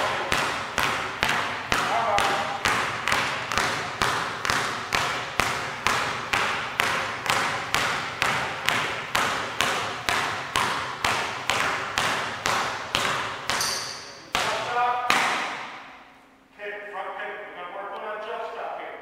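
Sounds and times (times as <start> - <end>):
basketballs bouncing on hardwood floor: 0.0 - 15.9.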